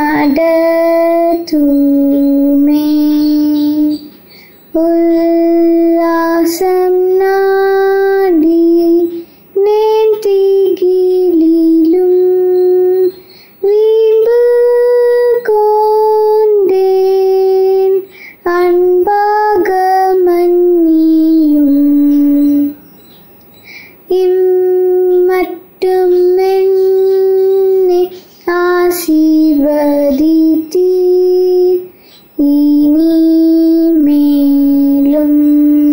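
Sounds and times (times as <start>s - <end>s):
girl singing unaccompanied: 0.0s - 22.9s, 23.6s - 35.9s.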